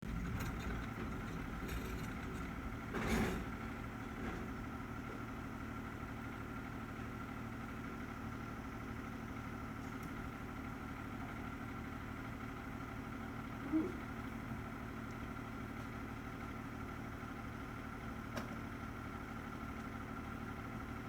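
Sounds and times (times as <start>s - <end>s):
garbage truck engine idling: 0.0s - 21.0s.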